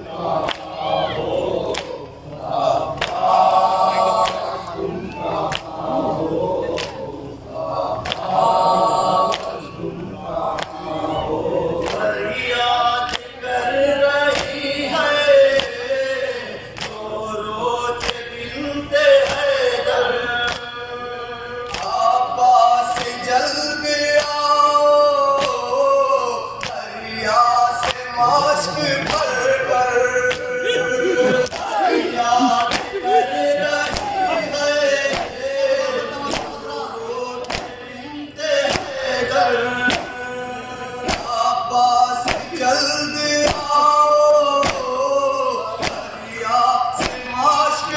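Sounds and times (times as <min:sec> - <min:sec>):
men chanting together: 0:00.0 - 0:47.9.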